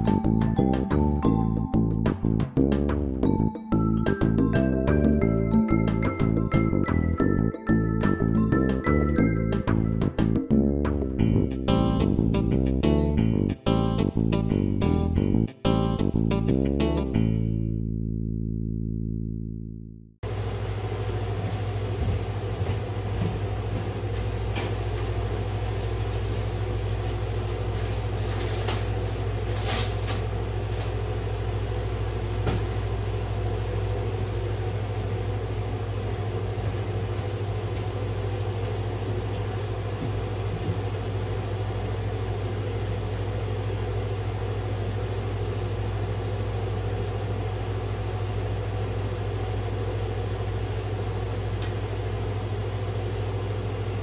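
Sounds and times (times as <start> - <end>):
air conditioner droning: 0.0 - 17.8, 20.2 - 54.0.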